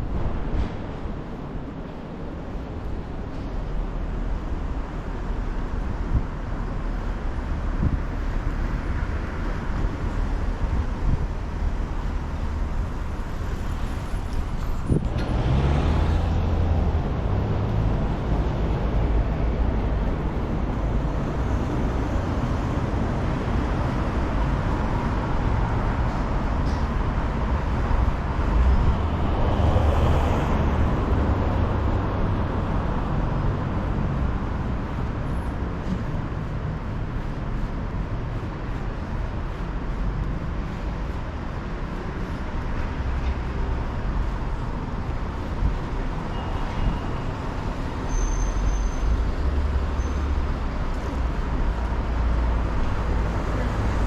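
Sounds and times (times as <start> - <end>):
road vehicles passing: 0.0 - 54.0.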